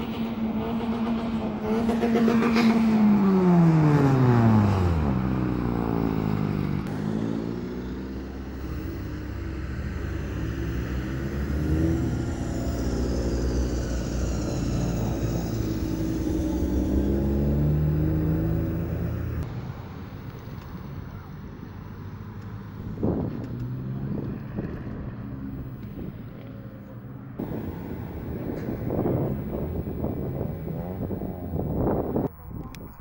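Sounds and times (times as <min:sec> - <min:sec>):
cars driving past slowly: 0:00.0 - 0:33.0.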